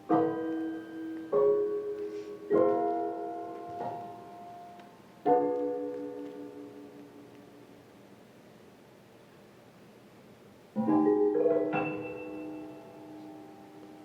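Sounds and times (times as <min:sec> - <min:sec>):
piano chords ringing: 0:00.0 - 0:08.2, 0:10.8 - 0:14.0.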